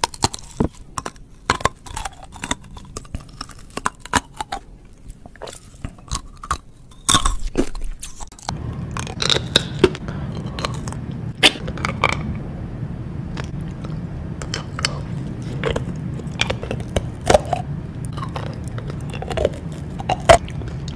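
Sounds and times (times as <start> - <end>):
hard candy crunching: 0.0 - 12.4, 13.3 - 20.9
steady low hum: 0.0 - 20.9.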